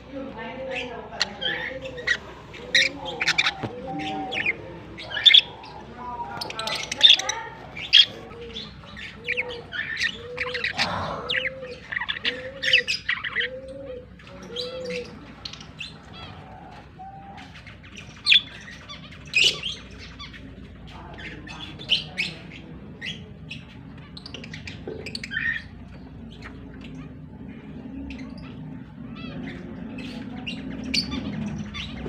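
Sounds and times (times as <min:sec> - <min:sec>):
budgerigars chirping and squawking: 0:00.0 - 0:32.0.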